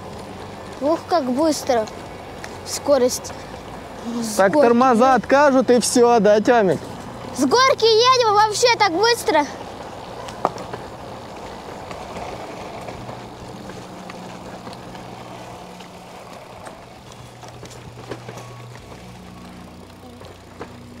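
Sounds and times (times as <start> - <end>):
bicycle tyre and riding noise: 0.0 - 21.0
bike clicks and rattles: 0.0 - 21.0.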